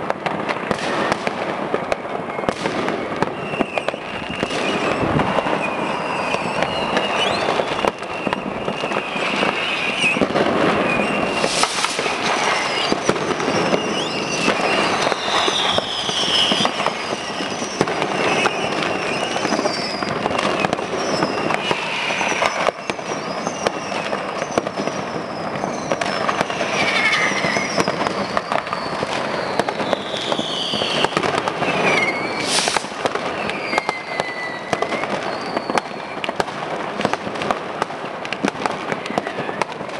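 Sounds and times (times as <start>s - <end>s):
firecrackers crackling and banging: 0.0s - 39.9s
whistling rockets: 0.0s - 39.9s.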